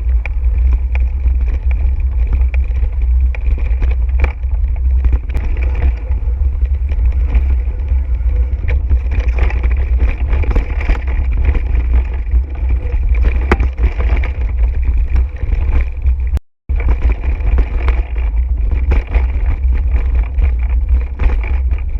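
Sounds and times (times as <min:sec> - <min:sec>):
mountain bike rattling: 0:00.0 - 0:21.9
wind buffeting microphone: 0:00.0 - 0:21.9.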